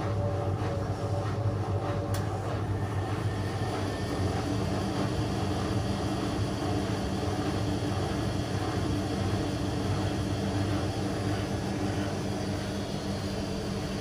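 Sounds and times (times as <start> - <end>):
washing machine spinning hum: 0.0 - 14.0.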